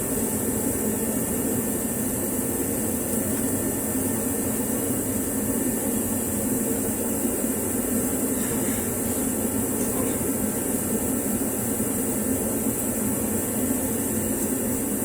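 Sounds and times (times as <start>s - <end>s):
steady mechanical drone: 0.0s - 15.0s.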